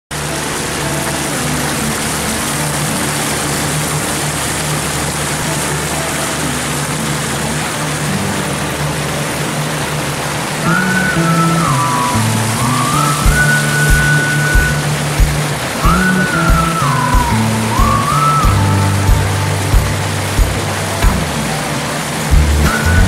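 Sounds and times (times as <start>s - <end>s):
motorboat engine running: 0.1s - 23.0s
rushing wind and water: 0.1s - 23.0s.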